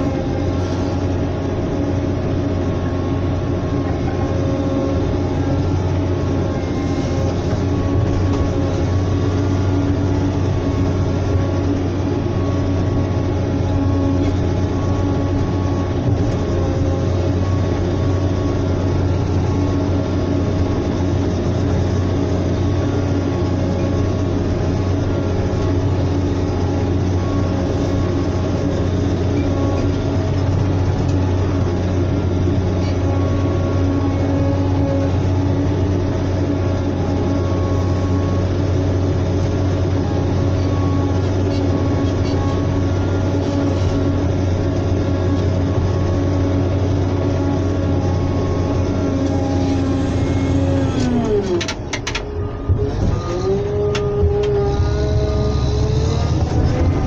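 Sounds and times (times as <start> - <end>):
diesel engine running inside cab: 0.0 - 57.0.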